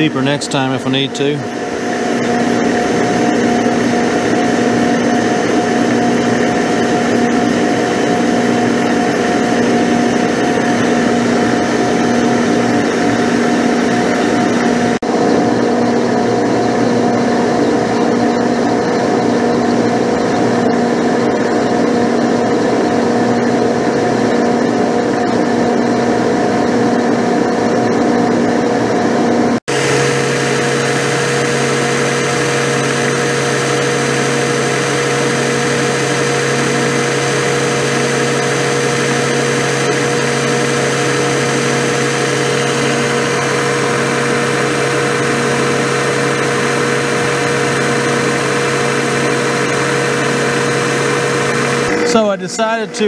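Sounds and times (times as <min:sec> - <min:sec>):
milling machine cutting: 0:00.0 - 0:53.0.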